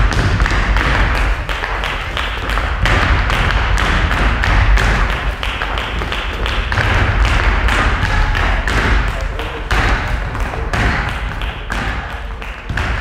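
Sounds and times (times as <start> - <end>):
dancers' shoes stamping on floor: 0.0 - 13.0.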